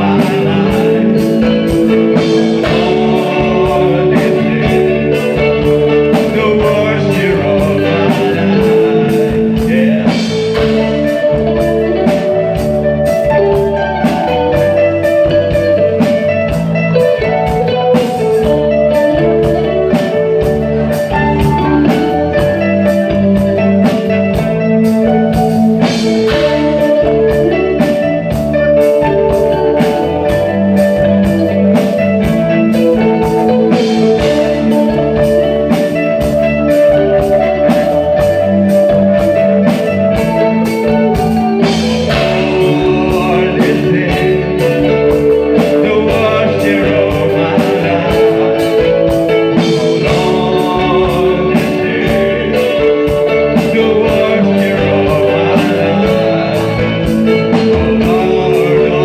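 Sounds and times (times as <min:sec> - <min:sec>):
bass guitar: 0:00.0 - 0:59.0
drum beat: 0:00.0 - 0:59.0
electric guitar: 0:00.0 - 0:59.0
keyboards: 0:00.0 - 0:59.0.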